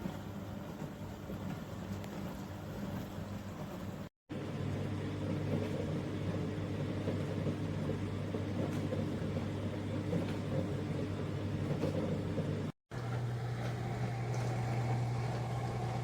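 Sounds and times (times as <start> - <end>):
dishwasher motor hum: 0.0 - 16.0.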